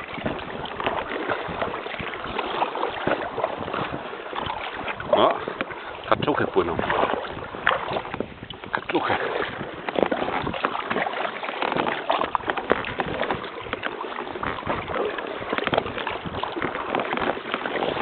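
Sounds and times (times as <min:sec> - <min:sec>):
paddle knocks: 0:00.0 - 0:18.0
water splashing around kayak: 0:00.0 - 0:18.0.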